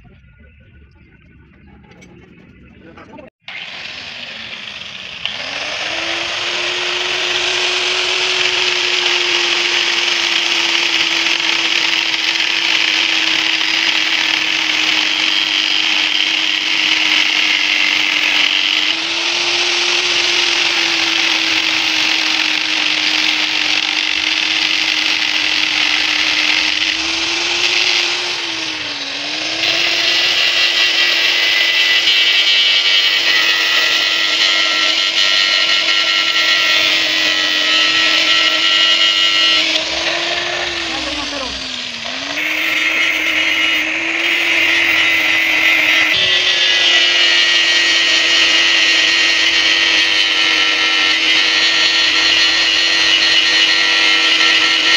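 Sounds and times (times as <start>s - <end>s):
electric power tool whining on metal: 3.4s - 54.9s.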